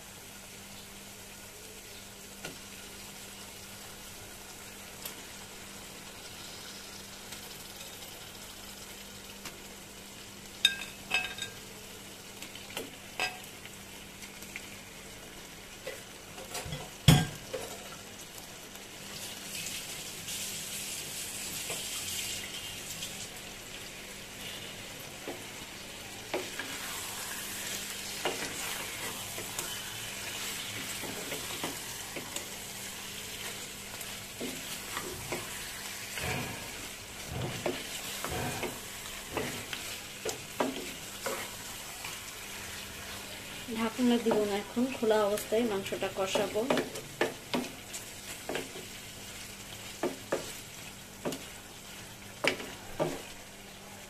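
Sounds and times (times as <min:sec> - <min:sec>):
meat sizzling in a pan: 0:00.0 - 0:54.0.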